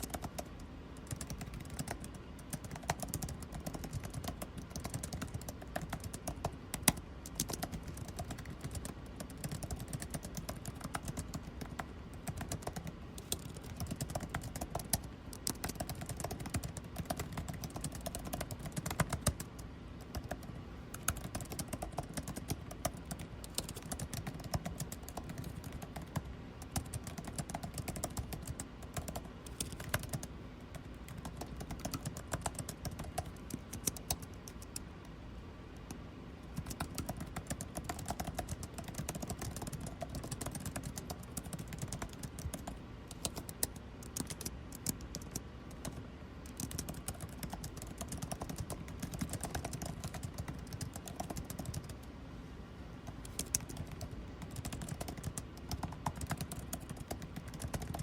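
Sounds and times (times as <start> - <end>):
typing on computer keyboard: 0.0 - 34.8, 35.8 - 52.1, 53.0 - 58.0
air conditioning hum: 0.0 - 58.0.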